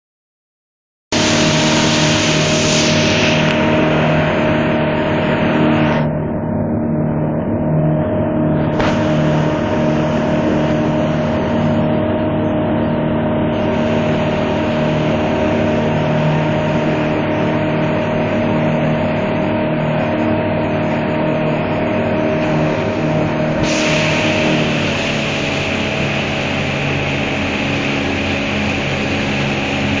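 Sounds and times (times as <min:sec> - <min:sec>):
loud rushing noise: 0:01.1 - 0:06.5, 0:08.4 - 0:30.0
boat engine running: 0:01.2 - 0:30.0.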